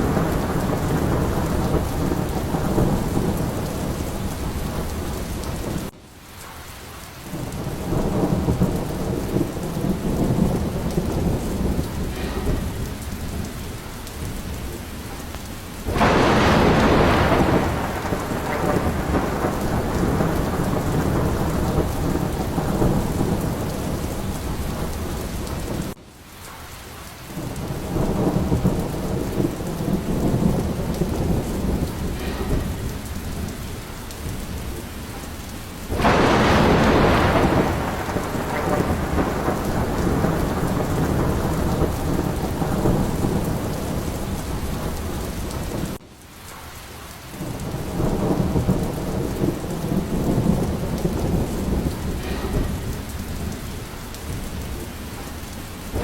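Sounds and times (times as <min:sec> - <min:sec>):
close thunderclap: 0:00.0 - 0:06.0, 0:07.2 - 0:26.0, 0:27.3 - 0:46.1, 0:47.3 - 0:56.0
rolling thunder: 0:00.0 - 0:06.0, 0:07.2 - 0:26.0, 0:27.3 - 0:46.0, 0:47.3 - 0:56.0
heavy rain: 0:00.0 - 0:56.0.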